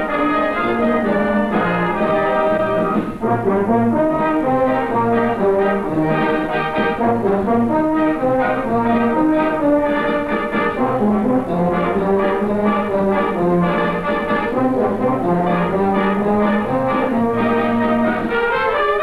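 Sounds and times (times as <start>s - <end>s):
wind band playing: 0.0s - 19.0s.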